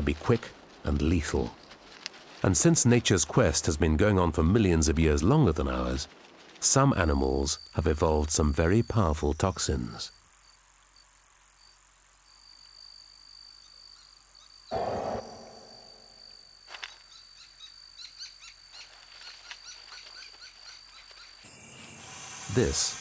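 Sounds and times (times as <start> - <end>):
insect trilling: 4.6 - 23.0.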